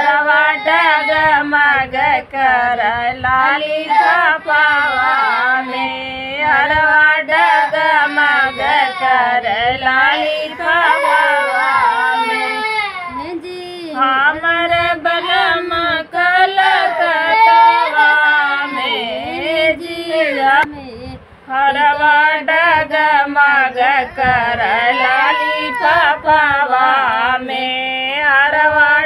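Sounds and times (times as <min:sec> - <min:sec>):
woman singing folk song: 0:00.0 - 0:29.0.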